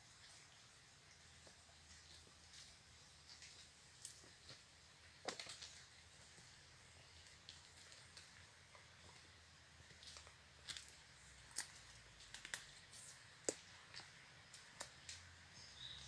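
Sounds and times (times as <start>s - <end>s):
faint clicks and ticks: 1.1s - 16.0s.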